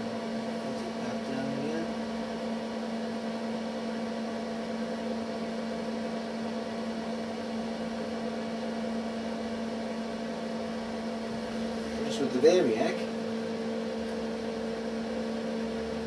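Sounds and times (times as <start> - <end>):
mains electrical hum: 0.0 - 16.0.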